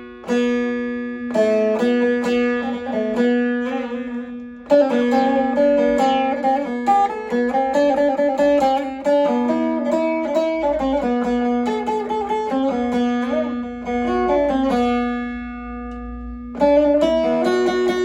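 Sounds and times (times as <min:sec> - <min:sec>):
plucked saz melody: 0:00.0 - 0:18.0.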